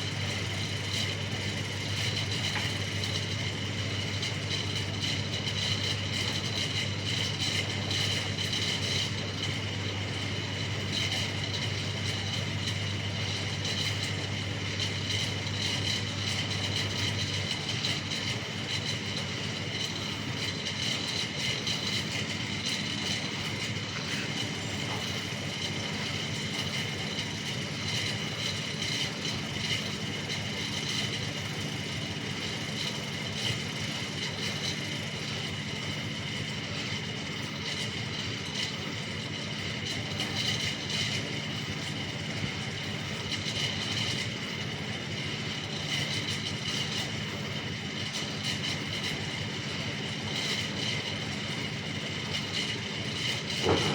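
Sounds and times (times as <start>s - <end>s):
washing machine humming and whining: 0.0s - 53.9s.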